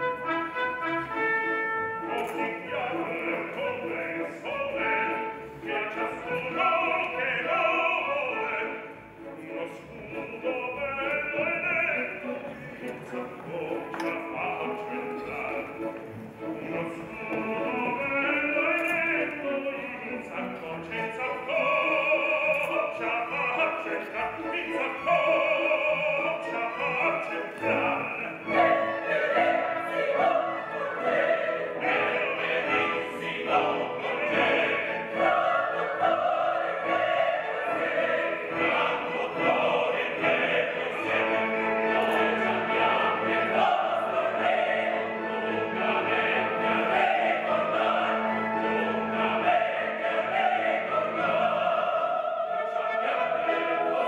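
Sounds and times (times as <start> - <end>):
chorus singing: 0.0 - 54.0
orchestra: 0.0 - 54.0.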